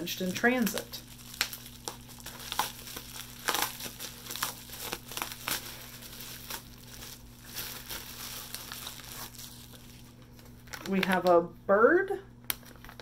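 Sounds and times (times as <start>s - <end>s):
bubble wrap crinkling: 0.0s - 11.5s, 12.4s - 13.0s.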